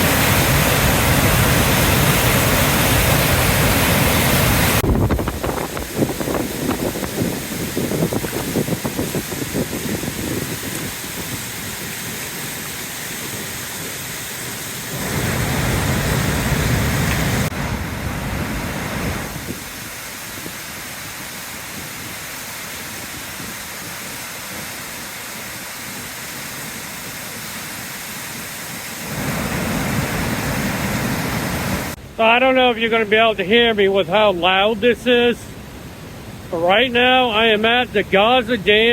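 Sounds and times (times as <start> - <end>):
floodwater rushing in a river: 0.0 - 38.9.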